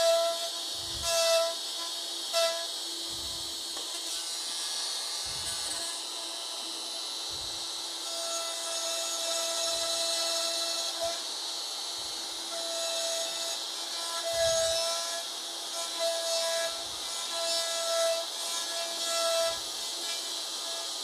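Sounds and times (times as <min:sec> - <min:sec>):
router cutting wood: 0:00.0 - 0:21.0.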